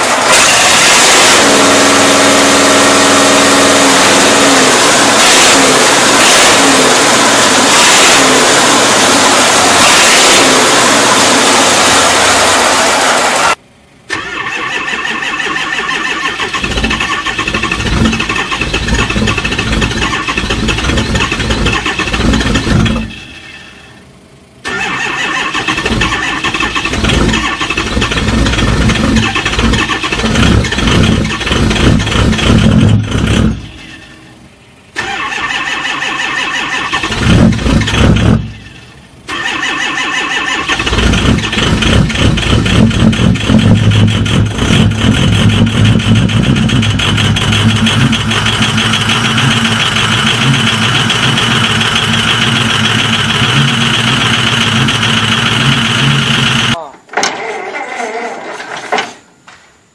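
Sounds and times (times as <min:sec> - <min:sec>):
cold engines cranking and starting: 0:00.0 - 0:59.2.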